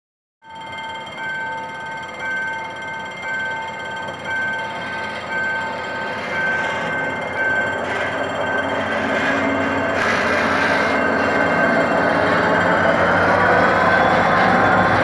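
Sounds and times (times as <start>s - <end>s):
level-crossing warning alarm: 0.4s - 15.0s
diesel locomotive engine: 0.6s - 15.0s.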